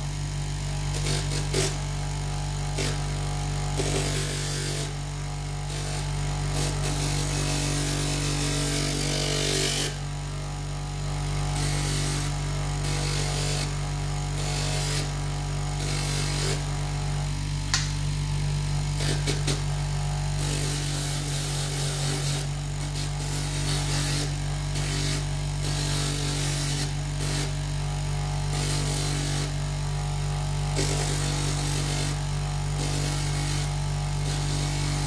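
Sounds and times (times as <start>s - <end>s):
bench grinder motor running: 0.0s - 35.0s.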